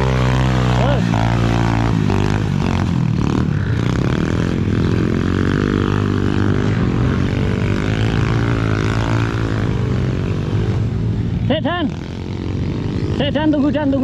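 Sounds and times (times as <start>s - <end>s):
small motorcycle engine revving: 0.0s - 14.0s.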